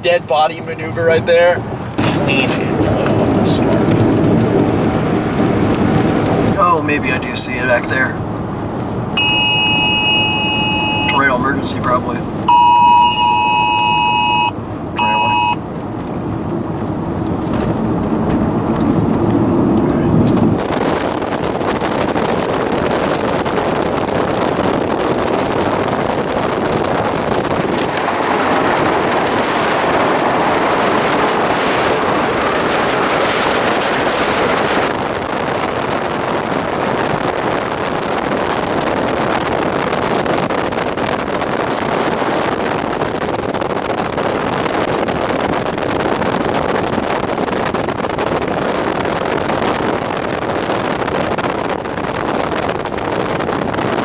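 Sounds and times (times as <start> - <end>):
vehicle rushing through wind and rain: 0.0 - 54.0.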